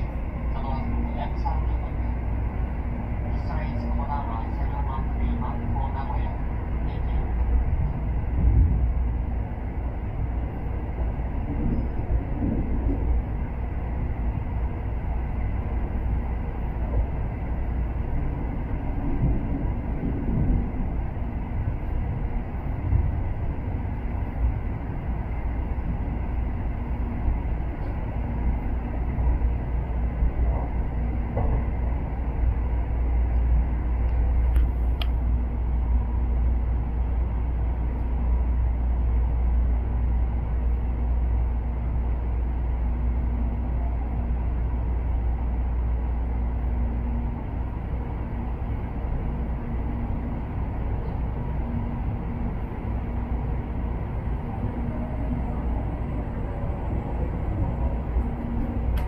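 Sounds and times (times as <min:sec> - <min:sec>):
faint hum: 0:00.0 - 0:59.0
train running rumble inside carriage: 0:00.0 - 0:59.0.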